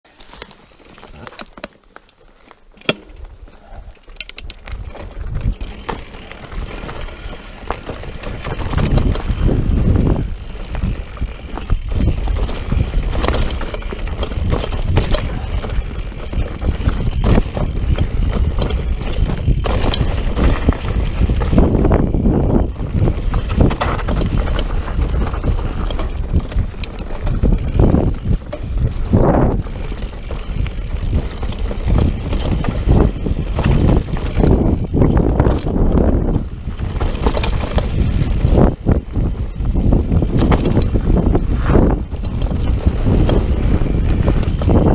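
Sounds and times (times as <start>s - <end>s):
bike knocking and clattering: 0.1s - 44.9s
bike tyres rumbling over stones: 0.1s - 44.9s.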